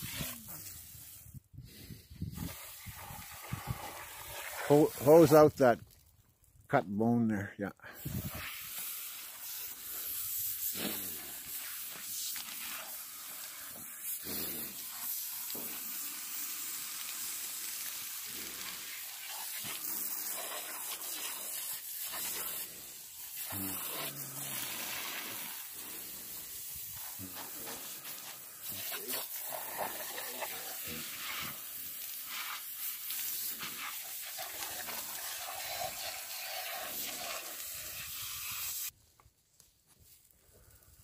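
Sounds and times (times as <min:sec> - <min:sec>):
hose nozzle spraying water: 0:00.0 - 0:01.4, 0:02.3 - 0:06.1, 0:08.0 - 0:39.0.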